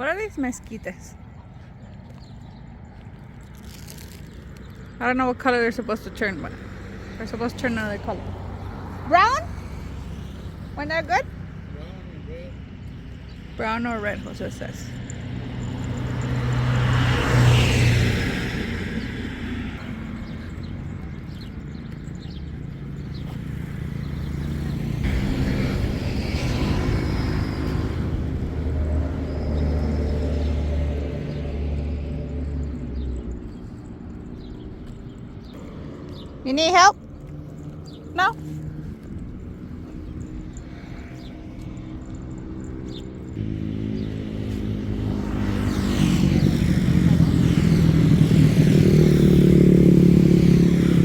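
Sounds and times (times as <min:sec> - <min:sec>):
traffic: 0:00.0 - 0:51.0
vehicle engine rumble: 0:00.0 - 0:51.0.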